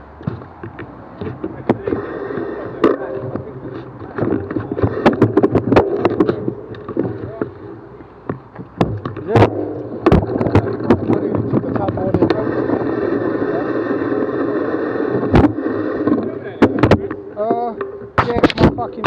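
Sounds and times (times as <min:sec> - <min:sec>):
tyre noise: 0:00.0 - 0:19.0.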